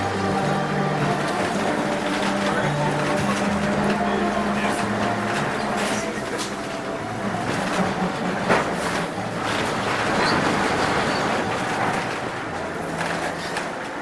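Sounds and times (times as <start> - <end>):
tram wheels rumbling and rattling: 0.0 - 14.0.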